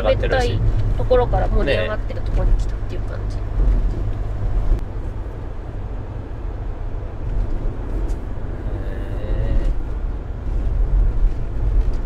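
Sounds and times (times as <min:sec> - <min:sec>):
van engine and tyre rumble: 0:00.0 - 0:12.0.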